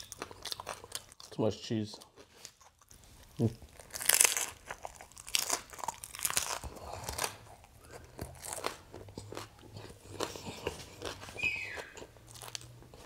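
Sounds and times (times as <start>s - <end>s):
crunching and chewing crispy food: 0.0s - 13.0s.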